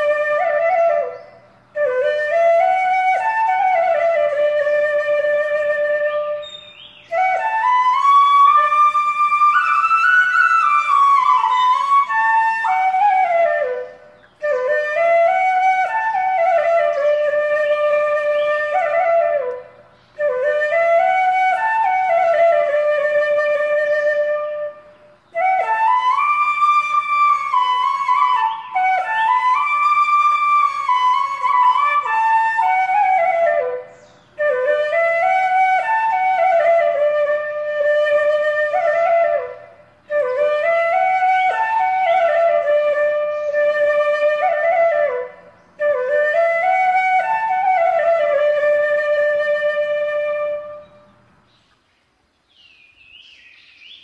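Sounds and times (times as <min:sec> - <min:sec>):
solo flute melody: 0:00.0 - 0:51.1.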